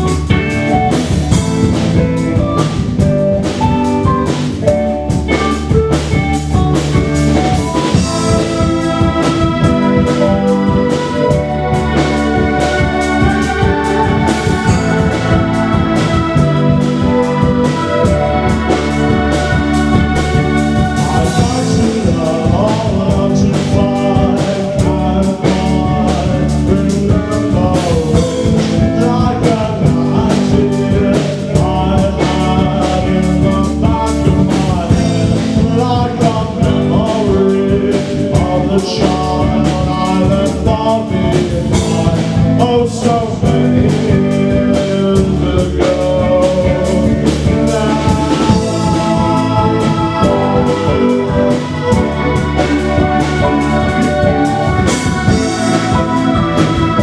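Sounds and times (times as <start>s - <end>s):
live band playing: 0.0s - 57.0s
man singing: 4.2s - 57.0s.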